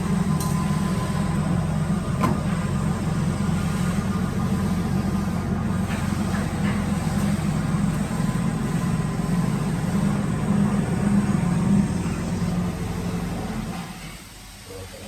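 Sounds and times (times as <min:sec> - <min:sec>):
drilling machine motor hum: 0:00.0 - 0:14.2.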